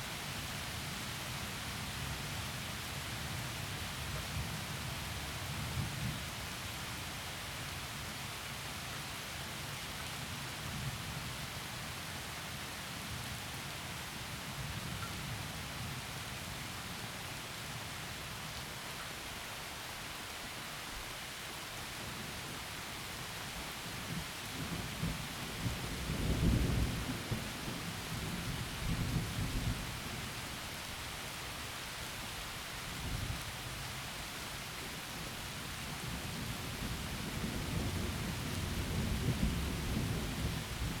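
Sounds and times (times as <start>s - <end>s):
heavy rain through trees: 0.0s - 41.0s.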